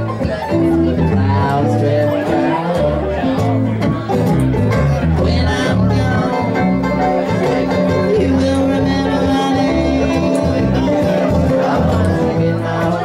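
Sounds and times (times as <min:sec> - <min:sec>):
banjo: 0:00.0 - 0:13.0
guitar: 0:00.0 - 0:13.0
mandolin: 0:00.0 - 0:13.0.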